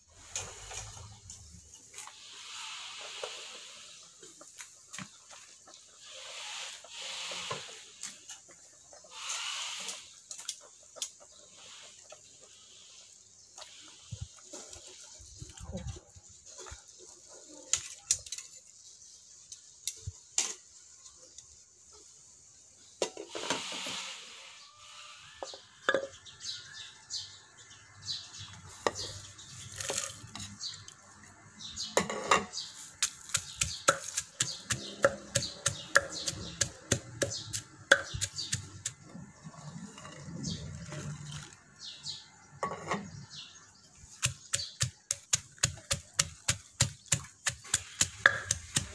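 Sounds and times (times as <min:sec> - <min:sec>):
birds chirping: 0:00.2 - 0:48.9.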